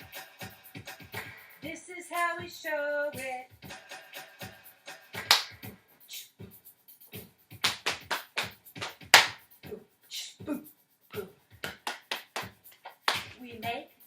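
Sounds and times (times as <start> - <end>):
rhythmic hand claps and slaps: 0.0 - 14.0.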